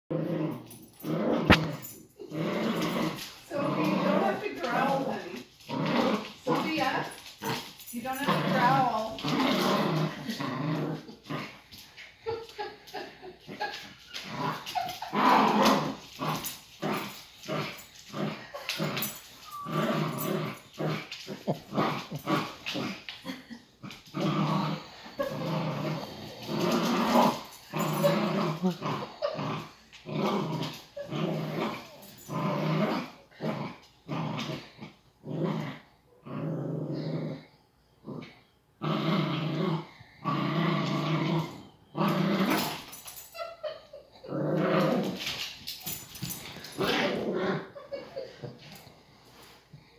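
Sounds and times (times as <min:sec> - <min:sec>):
dogs growling in play: 0:00.1 - 0:49.9.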